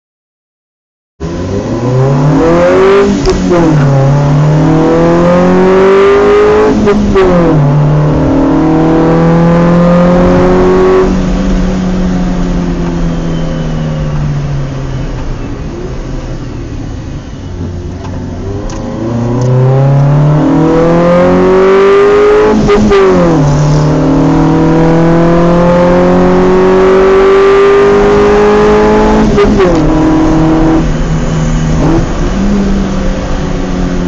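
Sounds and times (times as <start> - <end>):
car engine accelerating: 1.2 - 34.0.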